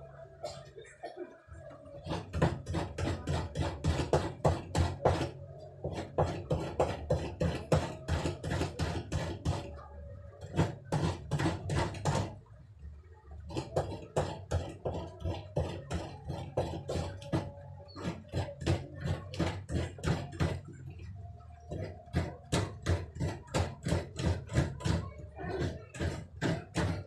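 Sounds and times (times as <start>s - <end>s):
coconut scraping on metal grater: 2.0s - 9.7s, 10.4s - 12.4s, 13.5s - 20.8s, 21.7s - 27.0s.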